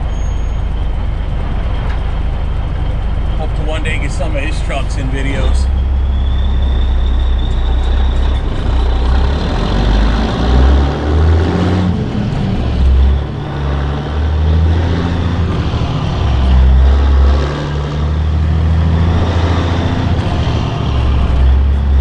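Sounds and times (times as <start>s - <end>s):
diesel truck engine from inside cab: 0.0s - 22.0s.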